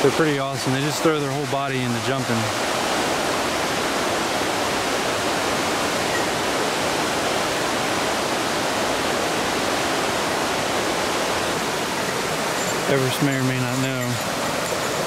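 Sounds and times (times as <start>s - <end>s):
river rushing through rapids: 0.0s - 15.0s.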